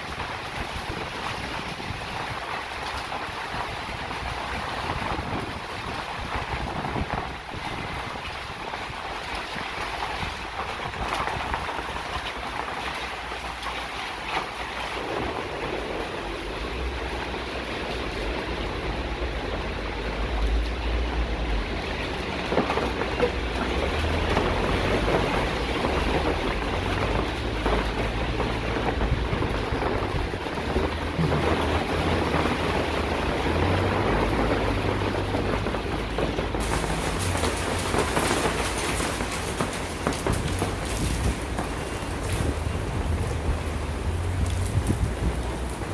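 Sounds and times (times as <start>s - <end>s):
hail and rain falling: 0.0s - 45.9s.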